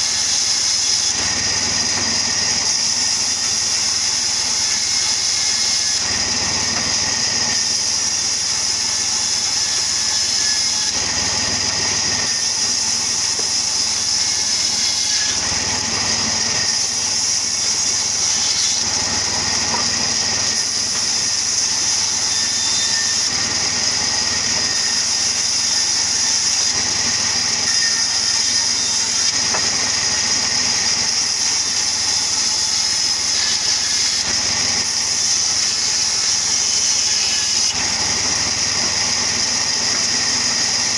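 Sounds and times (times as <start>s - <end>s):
sawmill machine running: 0.0s - 40.9s.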